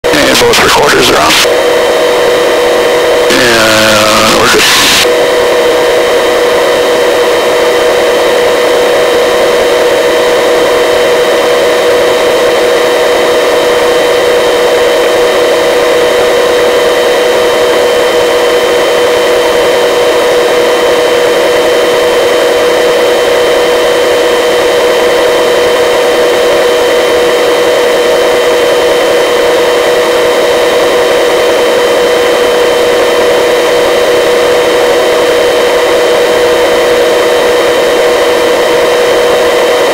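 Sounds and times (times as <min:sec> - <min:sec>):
helicopter rotor drone: 0:00.0 - 0:39.9
high turbine whine: 0:00.0 - 0:39.9.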